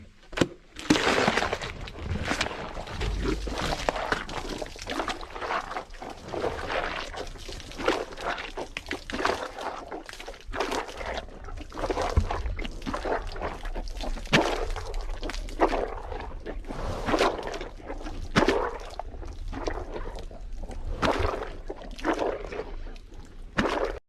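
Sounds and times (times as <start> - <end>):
wet crunching and squelching: 0.3 - 24.0.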